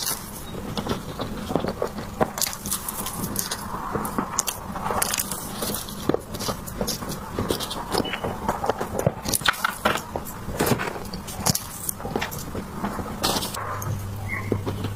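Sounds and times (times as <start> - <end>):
chewing and biting: 0.0 - 14.9
small clicks and crackles: 0.0 - 14.9.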